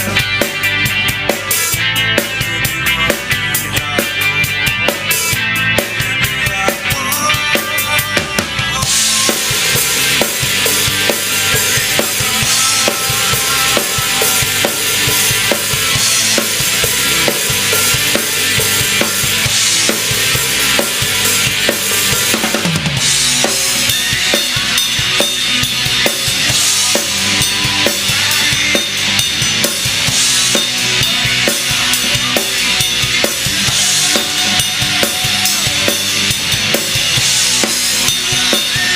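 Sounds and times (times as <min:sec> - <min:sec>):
drum kit beat: 0:00.0 - 0:38.9
rock band playing: 0:00.0 - 0:38.9.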